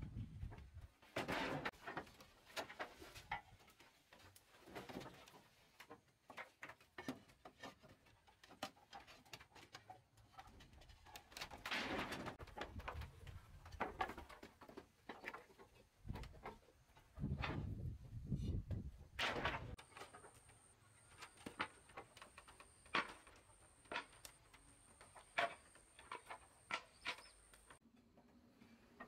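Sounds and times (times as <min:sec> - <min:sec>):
wooden boards knocking and clattering: 0:00.4 - 0:17.9, 0:18.7 - 0:27.8.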